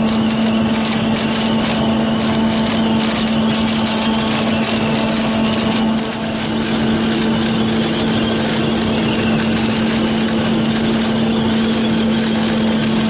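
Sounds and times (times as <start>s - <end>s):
engine hum: 0.0s - 13.0s
rattling machinery: 0.0s - 13.0s.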